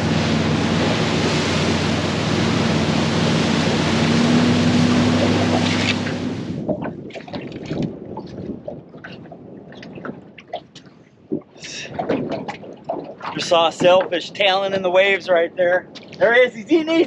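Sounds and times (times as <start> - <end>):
boat engine hum: 0.0 - 16.5
rushing water: 0.0 - 17.0
water lapping: 0.0 - 17.0
wind: 0.0 - 17.0.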